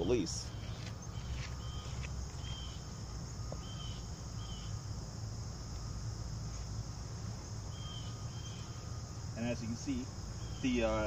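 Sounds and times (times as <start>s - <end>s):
crickets trilling: 0.0s - 11.0s
short insect chirps: 0.0s - 11.0s.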